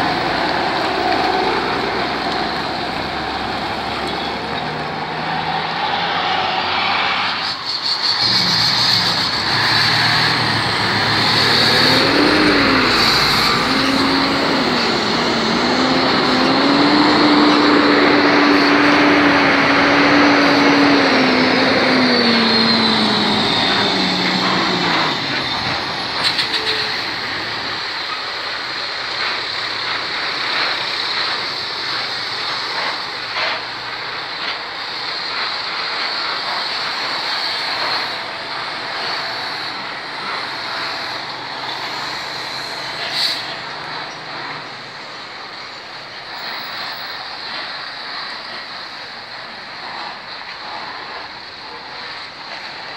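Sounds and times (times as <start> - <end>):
steady rushing noise: 0.0 - 52.9
truck diesel engine passing: 0.0 - 52.9.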